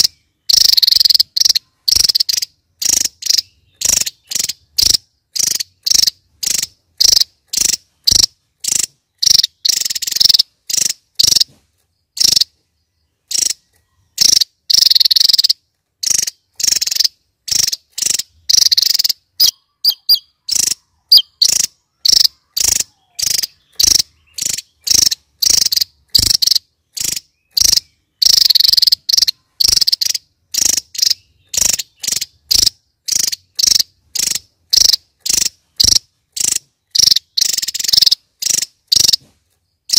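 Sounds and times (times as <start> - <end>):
bird singing high-pitched notes: 0.0 - 39.9.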